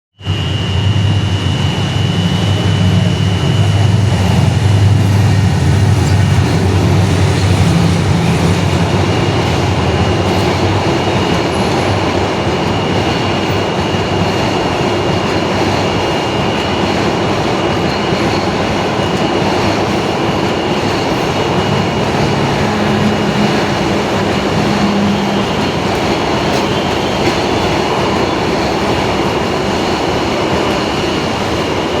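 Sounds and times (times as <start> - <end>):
thin high whine: 0.2 - 13.6, 15.8 - 28.6
diesel locomotive humming: 0.2 - 32.0
train wheels on rails: 0.2 - 32.0.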